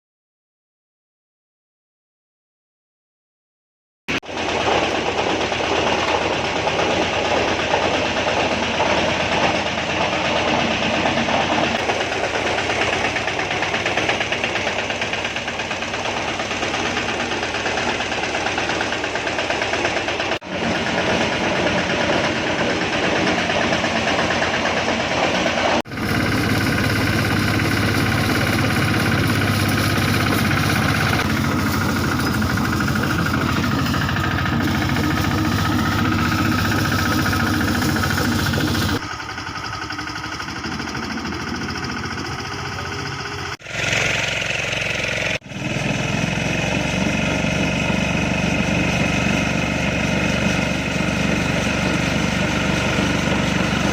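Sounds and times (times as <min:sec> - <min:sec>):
single-cylinder engine running: 0:04.1 - 0:53.9.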